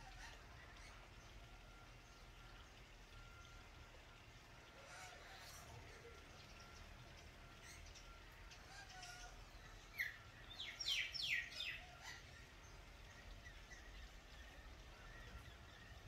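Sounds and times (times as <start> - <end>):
faint bird chirps: 0.0 - 3.9, 4.6 - 16.0.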